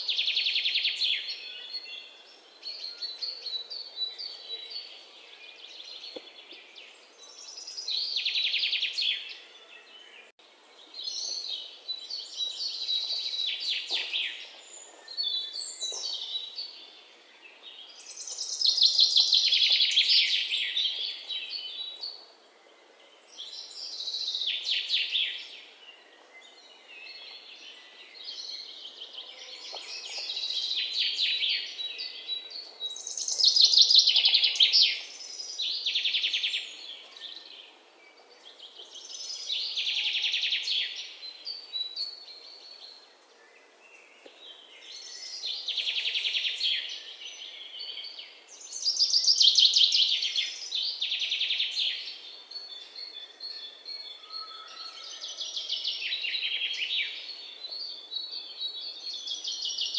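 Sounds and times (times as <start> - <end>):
faint outdoor hiss: 0.0 - 54.2, 55.0 - 59.9
songbirds trilled chirps: 0.0 - 59.9.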